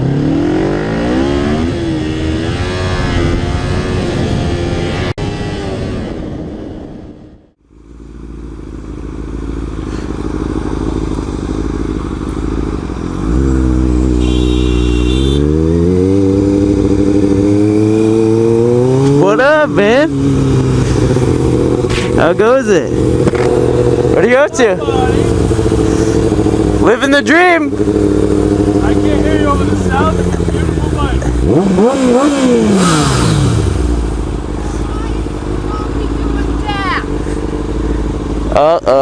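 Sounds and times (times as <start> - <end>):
motorcycle engine accelerating: 0.0 - 39.0
motorcycle engine running: 7.6 - 39.0.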